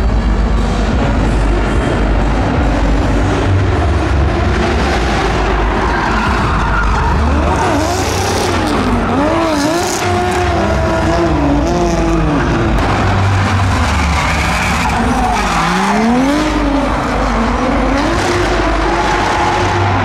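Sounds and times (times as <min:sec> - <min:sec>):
car engines revving: 0:00.0 - 0:20.0
tyres skidding and squealing: 0:00.0 - 0:20.0.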